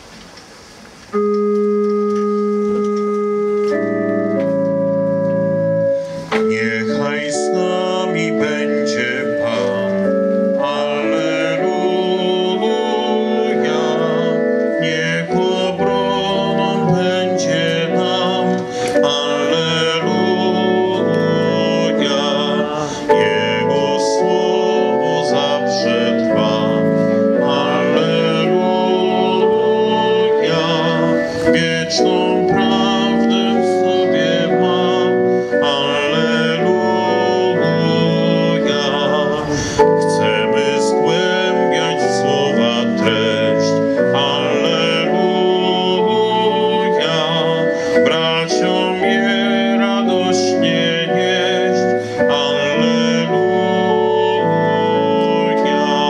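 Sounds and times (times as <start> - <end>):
organ music: 0.0 - 56.0
person singing: 1.2 - 56.0.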